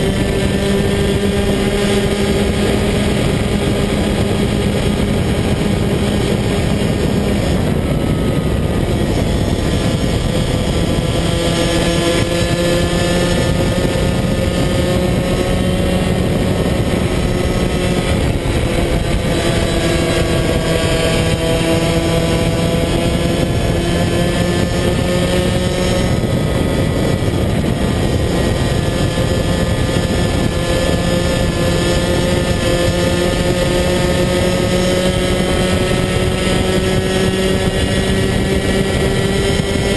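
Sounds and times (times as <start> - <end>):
two-stroke kart engine racing: 0.0 - 39.9.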